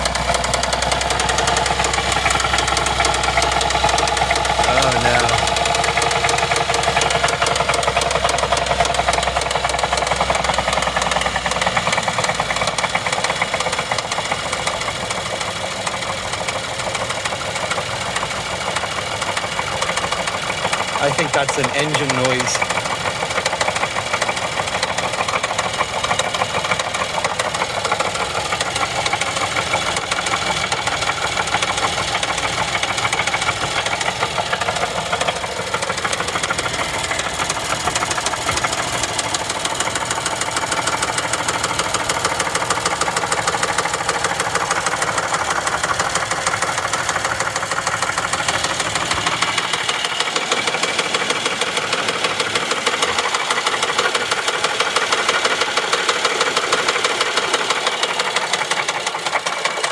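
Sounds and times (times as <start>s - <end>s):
engine with loud tapping clatter: 0.0s - 59.9s.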